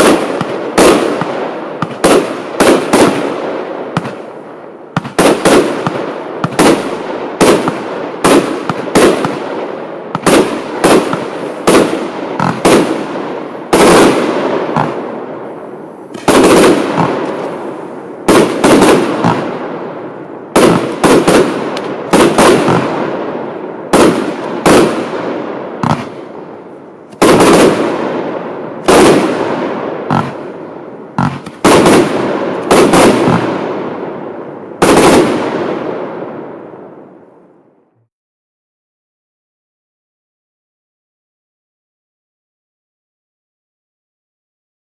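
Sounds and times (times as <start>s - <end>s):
firework bangs: 0.0s - 37.4s.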